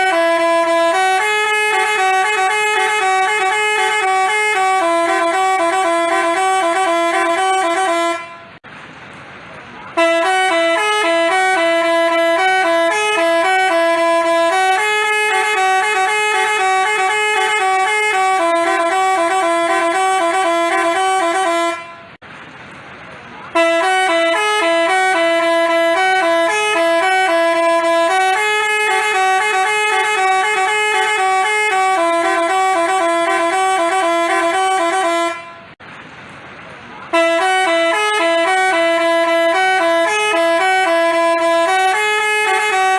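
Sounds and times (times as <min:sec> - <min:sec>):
bus horn playing a melody: 0:00.0 - 0:08.6, 0:09.9 - 0:22.2, 0:23.5 - 0:35.8, 0:37.1 - 0:42.9.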